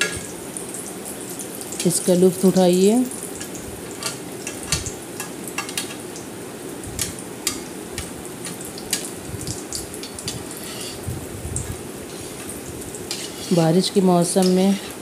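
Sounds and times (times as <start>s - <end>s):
deep-frying sizzle with crackles: 0.0s - 15.0s.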